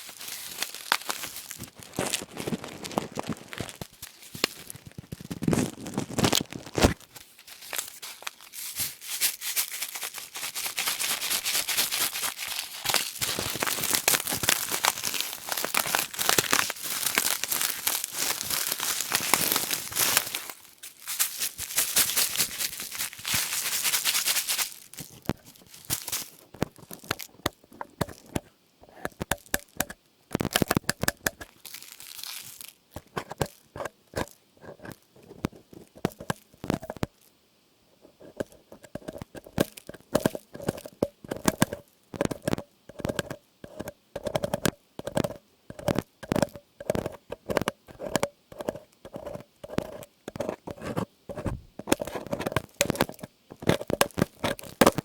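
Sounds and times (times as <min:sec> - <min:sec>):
crinkling of crackly material: 0:00.0 - 0:37.3, 0:38.0 - 0:55.0.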